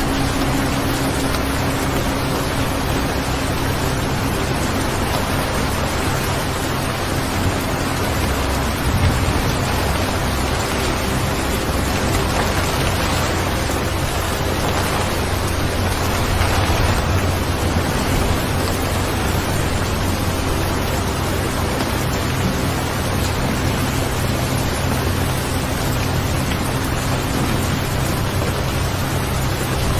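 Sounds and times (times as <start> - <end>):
low rumble: 0.0 - 29.9
rain falling: 0.0 - 29.9.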